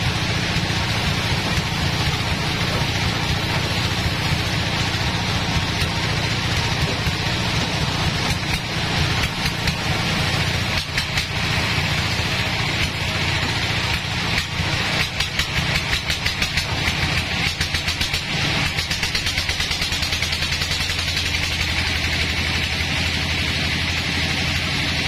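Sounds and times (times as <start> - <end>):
sawmill machine hum: 0.0 - 25.0.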